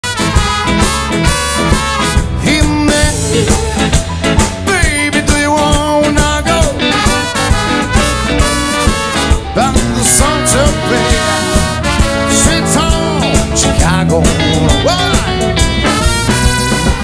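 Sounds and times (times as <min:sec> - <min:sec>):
brass horns: 0:00.0 - 0:03.5, 0:06.5 - 0:17.0
band playing upbeat music: 0:00.0 - 0:17.0
steady drum beat: 0:00.0 - 0:17.0.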